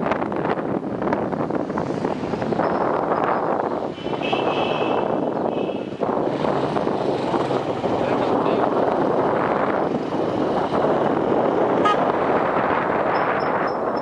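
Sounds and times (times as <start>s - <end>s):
motorcycle engine at low speed: 0.0s - 14.0s
wind noise on microphone: 0.0s - 14.0s.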